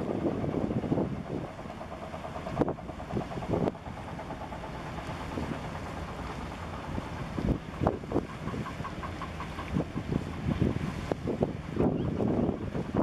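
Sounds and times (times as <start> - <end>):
engine running steadily: 0.0 - 13.0
wind buffeting microphone: 0.0 - 13.0.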